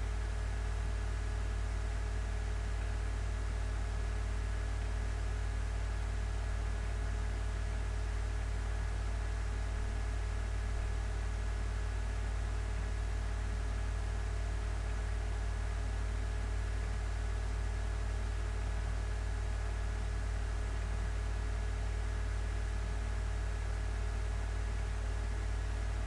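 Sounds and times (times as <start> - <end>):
low room hum with hiss: 0.0 - 26.0.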